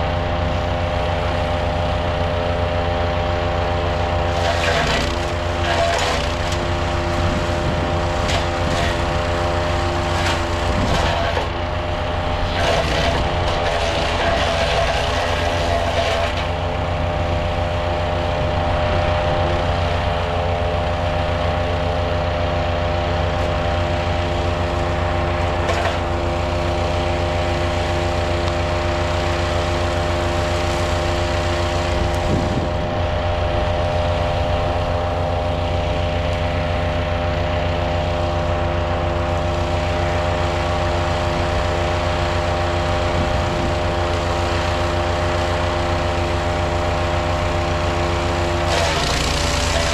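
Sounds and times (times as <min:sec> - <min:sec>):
wood chipper engine running: 0:00.0 - 0:49.9.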